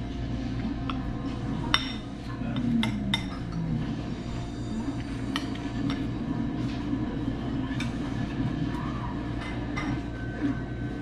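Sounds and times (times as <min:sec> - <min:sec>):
low room rumble: 0:00.0 - 0:11.0.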